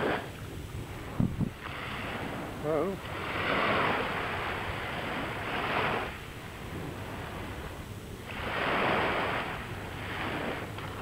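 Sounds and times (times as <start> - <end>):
sea waves washing in: 0.0 - 11.0.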